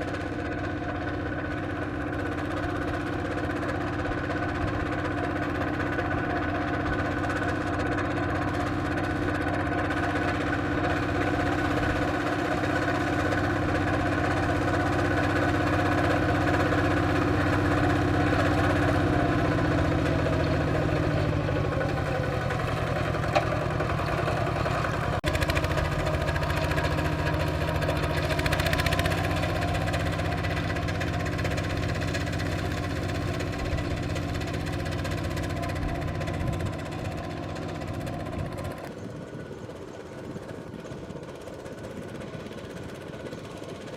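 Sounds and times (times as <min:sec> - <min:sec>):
single-cylinder diesel engine running: 0:00.0 - 0:43.9.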